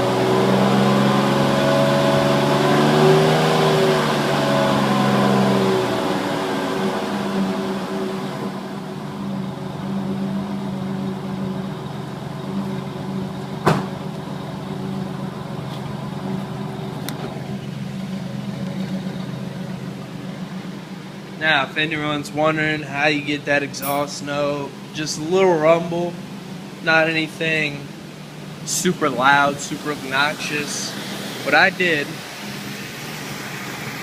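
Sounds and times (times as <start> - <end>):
engine idling exhaust rumble: 4.2 - 34.0.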